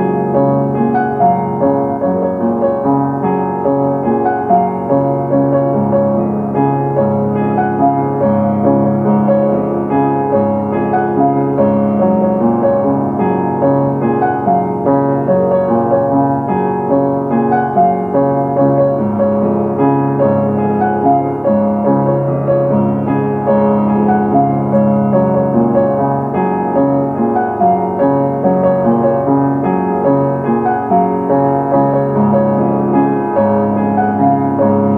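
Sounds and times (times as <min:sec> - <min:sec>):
gentle piano melody: 0:00.0 - 0:34.9.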